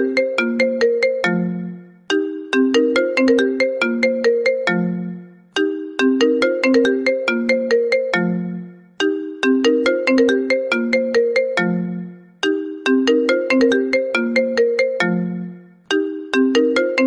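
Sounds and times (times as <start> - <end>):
phone ringtone plucked notes: 0.0 - 17.0.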